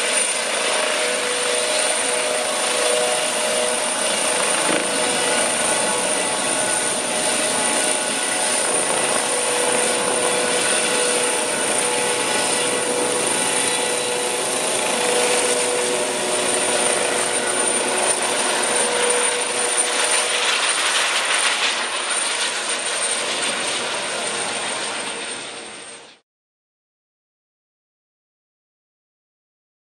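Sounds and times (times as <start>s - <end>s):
helicopter rotor and turbine whine: 0.0s - 26.2s.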